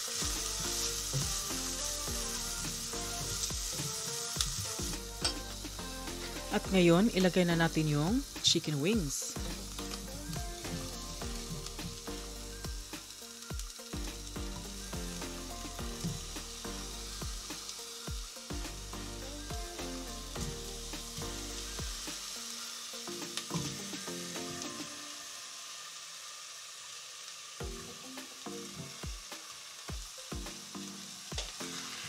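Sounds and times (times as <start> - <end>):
food sizzling in hot oil: 0.0 - 32.0.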